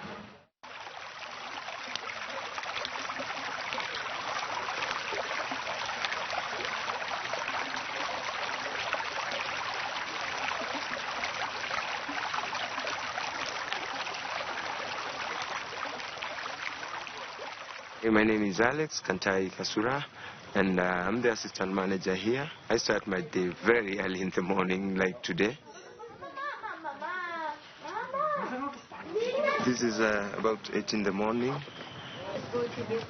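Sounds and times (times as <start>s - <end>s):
running water rushing: 0.0s - 25.6s, 28.4s - 33.0s.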